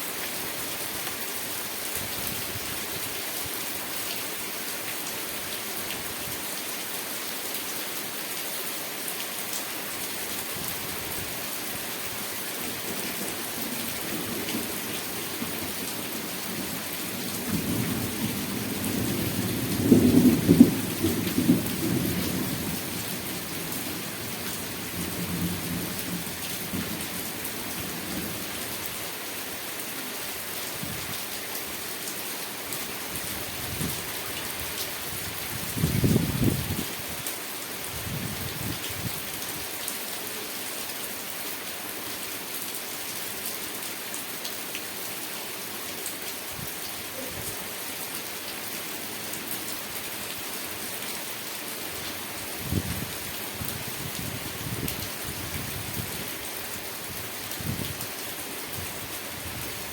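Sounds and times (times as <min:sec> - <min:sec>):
rain pattering on surfaces: 0:00.1 - 0:59.9.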